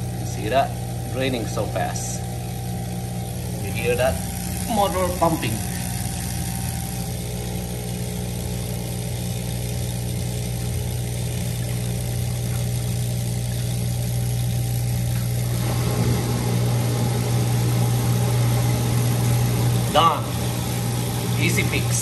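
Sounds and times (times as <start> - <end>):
drain pump humming: 0.0 - 22.0.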